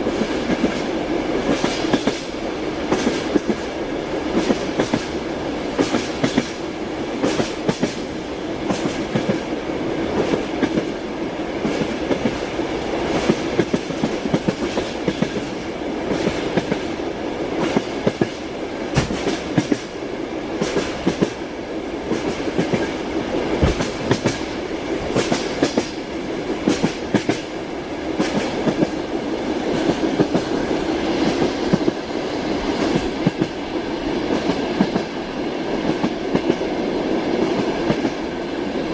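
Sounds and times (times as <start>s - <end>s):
train carriage rumble: 0.0s - 38.9s.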